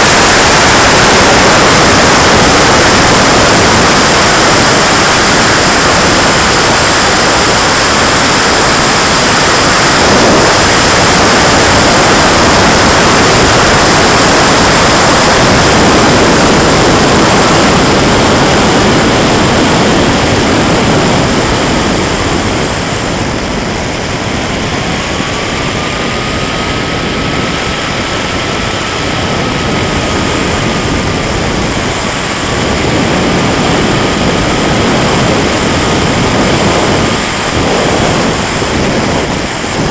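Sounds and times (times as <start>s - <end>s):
model jet turbine roaring: 0.0s - 39.9s.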